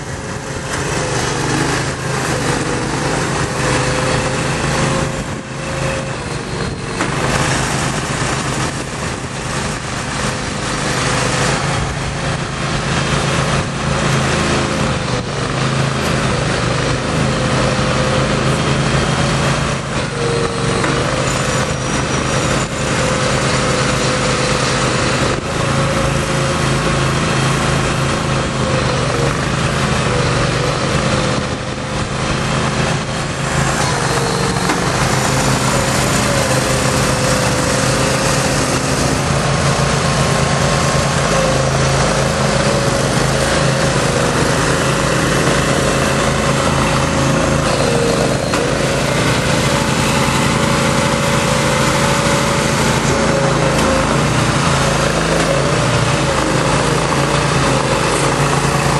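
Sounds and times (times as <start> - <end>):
small engine running under load: 0.0 - 58.9.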